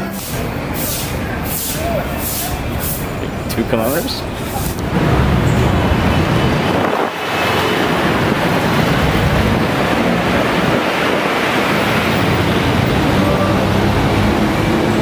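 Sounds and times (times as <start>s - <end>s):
heavy street traffic: 0.0s - 15.0s.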